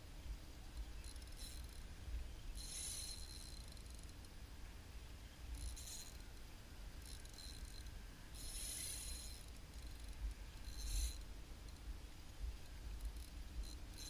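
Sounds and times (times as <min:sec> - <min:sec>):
fishing reel gear whir: 0:00.6 - 0:04.4, 0:05.4 - 0:14.0.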